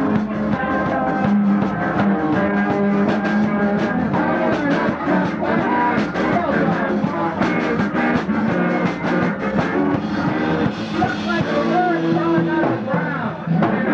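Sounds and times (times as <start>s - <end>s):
rock band playing: 0.0s - 13.9s.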